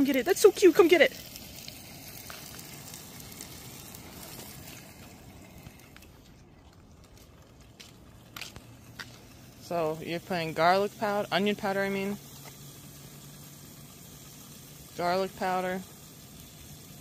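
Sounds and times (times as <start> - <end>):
tofu sizzling in a pan: 0.0 - 5.5, 8.7 - 17.0.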